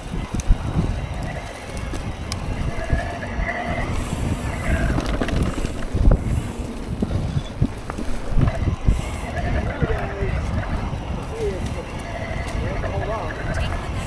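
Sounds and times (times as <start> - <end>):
bike rumbling and knocking: 0.0 - 14.0
wind buffeting microphone: 0.0 - 14.0.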